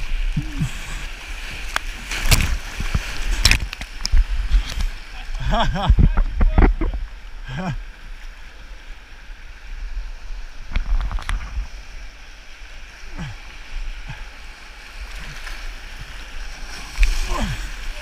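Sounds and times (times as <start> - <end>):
whitewater rushing and splashing: 0.0 - 18.0.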